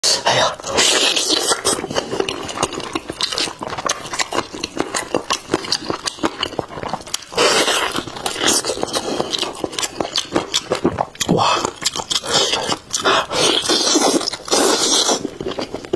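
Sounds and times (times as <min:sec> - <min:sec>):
chewing chicken leg: 0:00.1 - 0:15.9.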